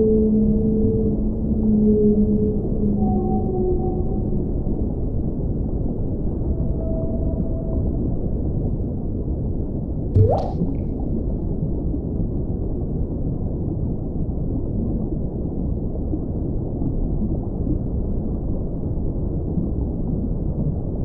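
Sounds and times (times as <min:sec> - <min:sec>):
low ocean rumble: 0:00.0 - 0:21.0.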